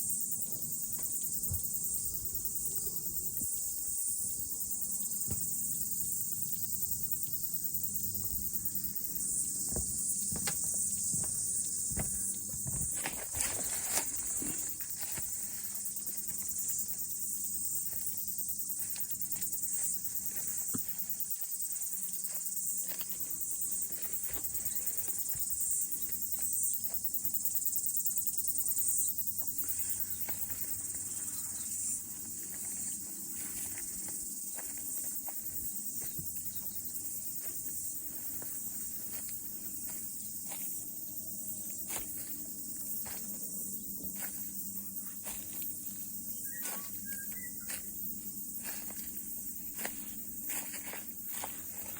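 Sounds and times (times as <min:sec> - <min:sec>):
cicadas droning: 0:00.0 - 0:51.9.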